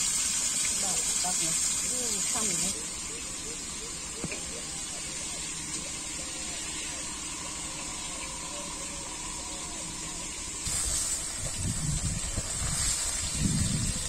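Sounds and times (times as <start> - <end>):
fish frying in oil: 0.0 - 14.0.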